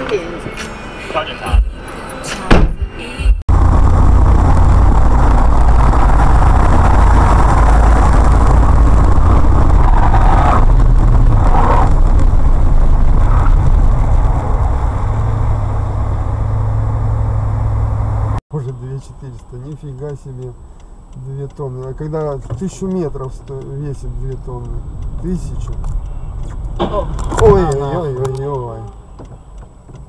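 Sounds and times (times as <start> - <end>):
road and engine noise inside car: 0.0 - 2.2, 3.4 - 30.0.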